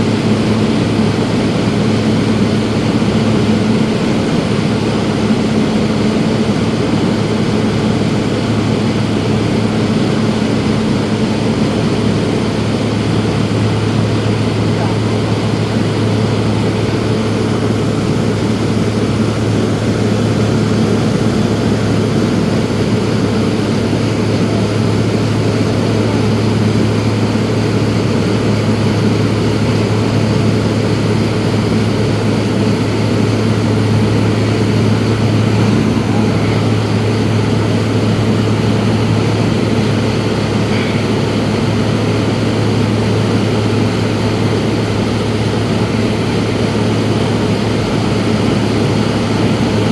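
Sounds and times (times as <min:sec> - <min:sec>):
propeller plane drone in cabin: 0:00.0 - 0:49.9.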